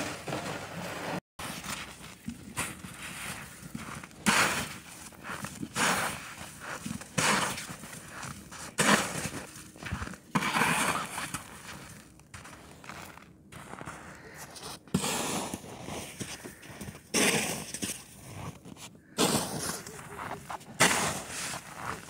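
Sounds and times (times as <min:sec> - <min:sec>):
snow crunching: 0:00.0 - 0:22.0
snow shovel scraping ice: 0:00.0 - 0:22.0.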